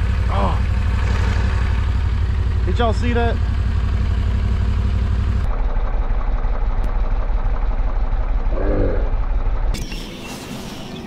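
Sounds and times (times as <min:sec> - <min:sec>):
boat motor droning: 0:00.0 - 0:09.8.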